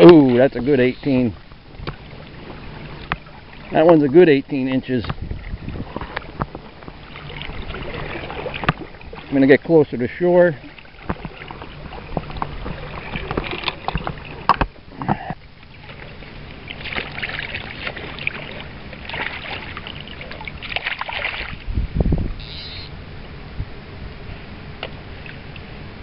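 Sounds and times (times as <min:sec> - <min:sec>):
water sloshing around wading legs: 0:00.0 - 0:21.7.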